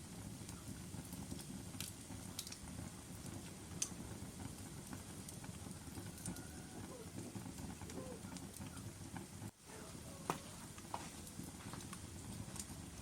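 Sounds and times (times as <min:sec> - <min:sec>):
fire crackling and popping: 0:00.0 - 0:13.0
low fire rumble: 0:00.0 - 0:13.0.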